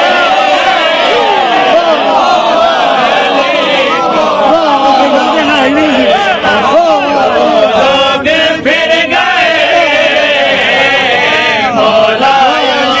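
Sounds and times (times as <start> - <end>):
crowd of men chanting: 0.0 - 13.0.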